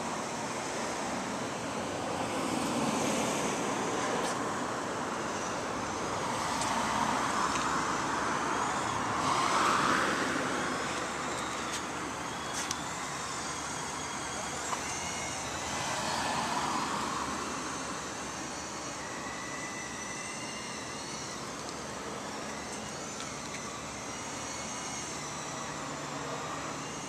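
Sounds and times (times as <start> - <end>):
cars passing: 0.0 - 22.6
steady traffic hum: 0.0 - 27.0.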